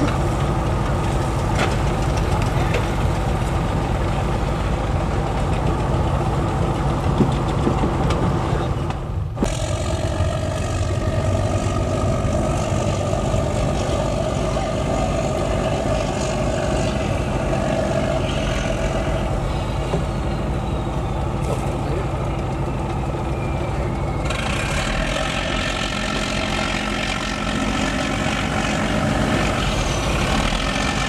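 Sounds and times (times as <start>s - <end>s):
marine diesel engine humming: 0.0s - 31.0s.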